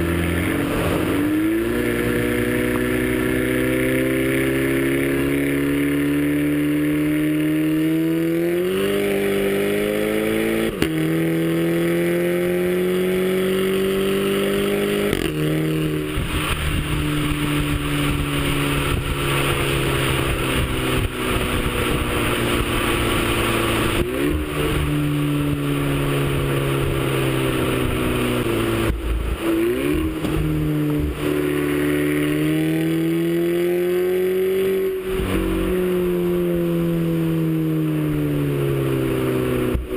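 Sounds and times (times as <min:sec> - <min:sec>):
turbocharged car engine accelerating: 0:00.0 - 0:39.9.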